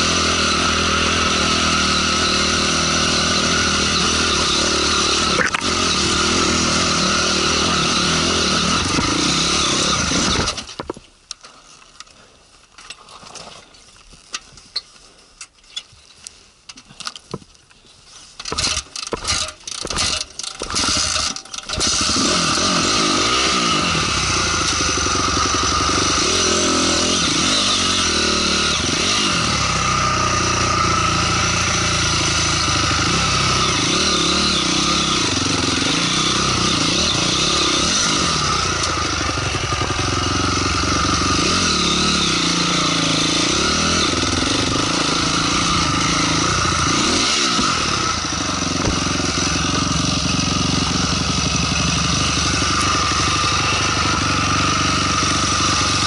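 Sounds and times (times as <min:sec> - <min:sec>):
motorcycle engine revving: 0:00.0 - 0:10.7, 0:18.4 - 0:56.0.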